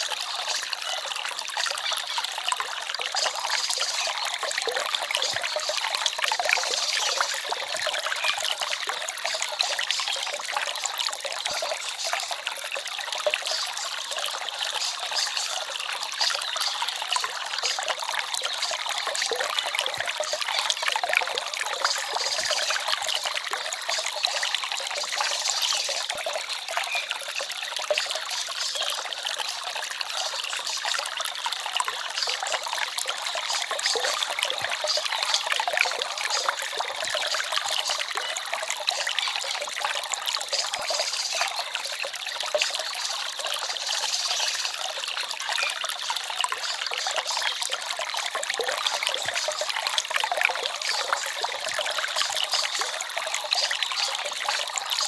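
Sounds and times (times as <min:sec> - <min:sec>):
forest stream babbling: 0:00.0 - 0:55.0.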